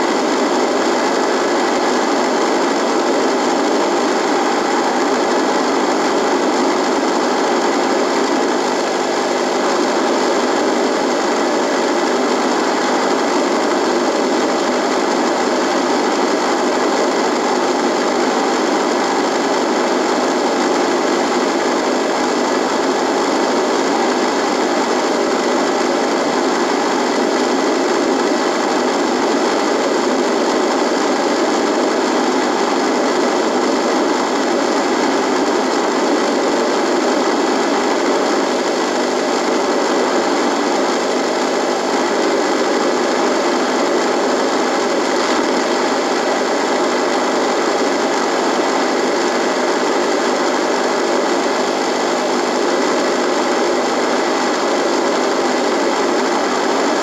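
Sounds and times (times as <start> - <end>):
radio static buzzing: 0.0 - 57.0.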